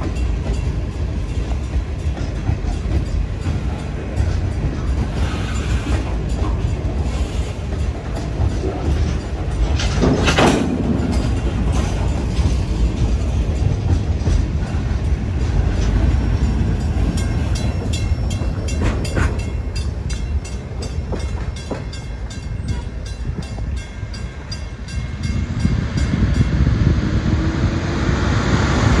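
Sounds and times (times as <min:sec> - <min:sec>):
wheels clicking over rail joints: 0:00.0 - 0:25.0
train wheels rumbling on rail: 0:00.0 - 0:29.0.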